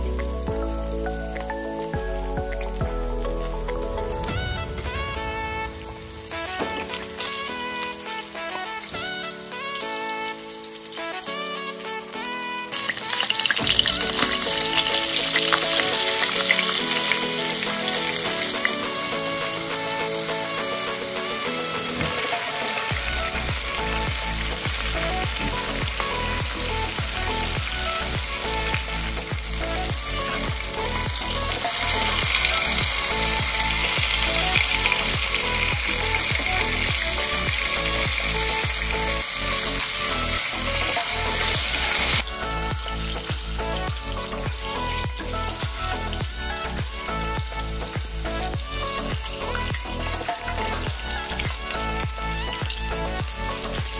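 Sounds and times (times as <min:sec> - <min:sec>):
fish sizzling in hot oil: 0:00.0 - 0:53.9.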